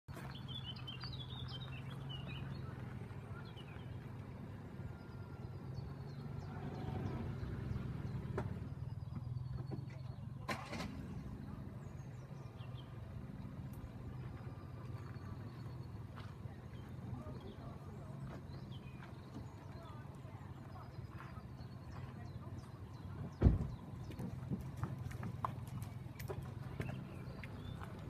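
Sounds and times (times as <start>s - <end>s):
birds chirping: 0.1s - 28.0s.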